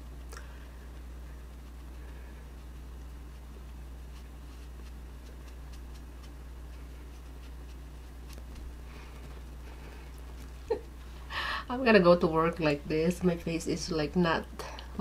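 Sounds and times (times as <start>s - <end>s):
low electrical hum: 0.0s - 15.0s
makeup sponge dabbing skin: 0.9s - 13.9s.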